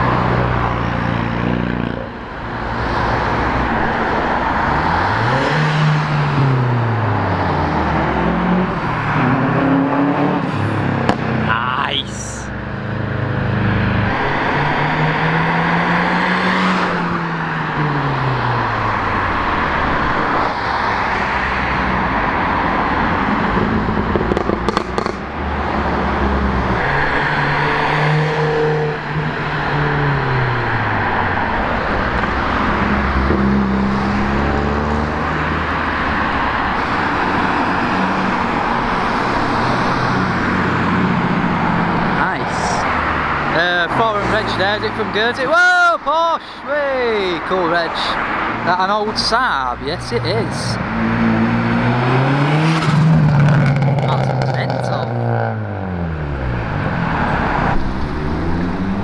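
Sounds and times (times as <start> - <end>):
cars driving past: 0.0 - 59.0
road noise: 0.0 - 59.0.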